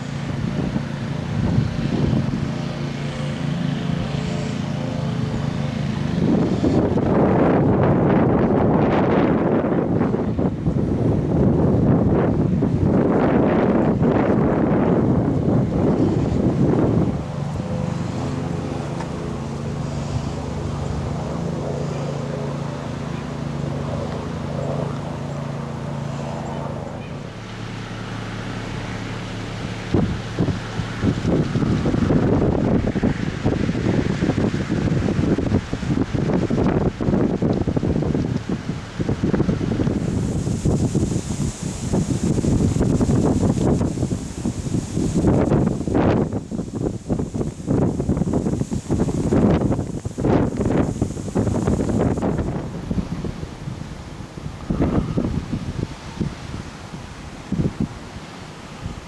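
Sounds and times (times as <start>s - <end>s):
engine droning: 0.0s - 59.0s
low mechanical hum: 0.0s - 59.0s
wind on microphone: 0.0s - 59.0s.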